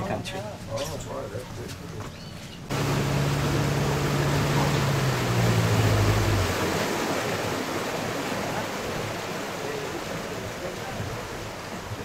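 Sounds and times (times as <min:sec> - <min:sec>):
boat motor running: 0:02.0 - 0:12.0.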